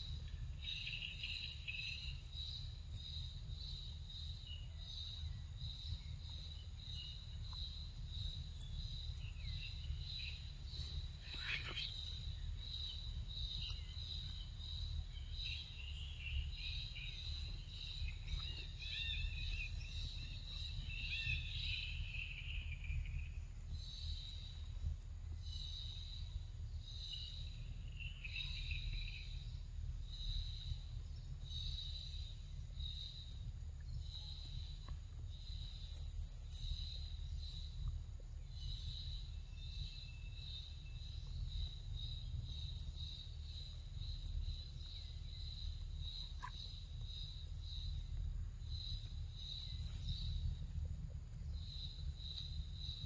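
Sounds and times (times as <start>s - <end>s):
insects chirping in pulses: 0.0s - 53.0s
steady high-pitched whine: 0.0s - 53.0s.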